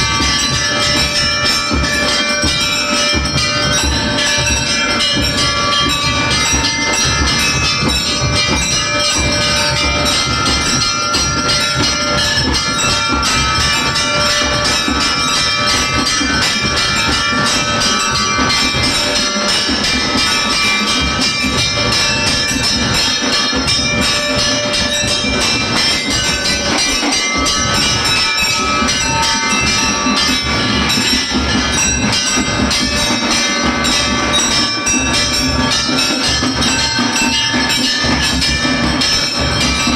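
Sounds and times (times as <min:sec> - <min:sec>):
bells clanging: 0:00.0 - 0:39.9
fast drumming: 0:00.0 - 0:39.9.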